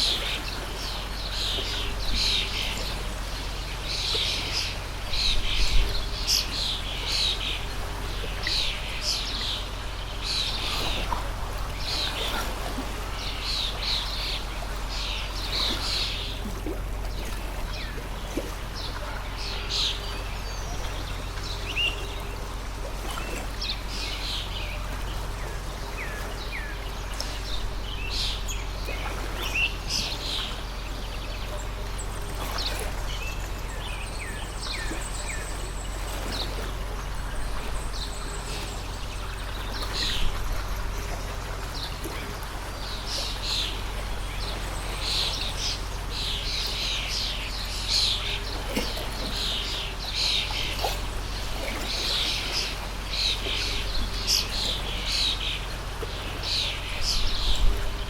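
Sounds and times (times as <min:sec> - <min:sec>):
songbirds chirping: 0:00.0 - 0:58.0
water stream flowing: 0:00.0 - 0:58.0.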